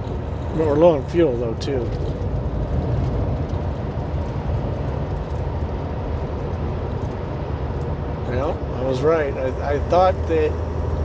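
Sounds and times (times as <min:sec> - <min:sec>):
diesel engine drone: 0:00.0 - 0:11.0
road and tyre noise: 0:00.0 - 0:11.0.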